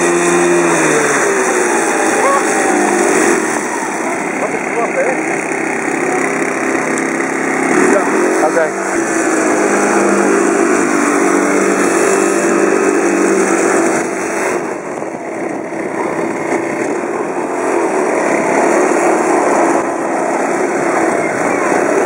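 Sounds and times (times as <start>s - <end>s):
small petrol engine running: 0.0s - 22.0s.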